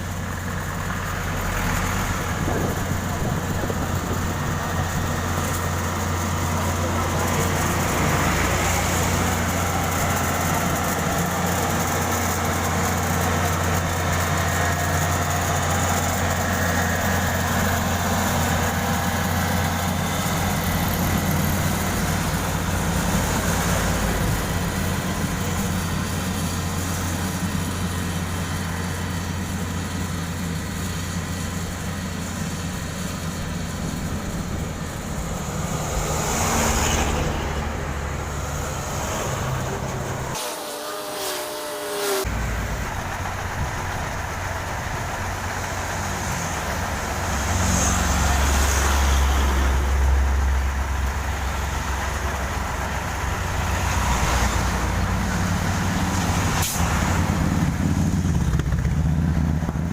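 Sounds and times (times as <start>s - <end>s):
diesel construction machinery running: 0.0s - 59.9s.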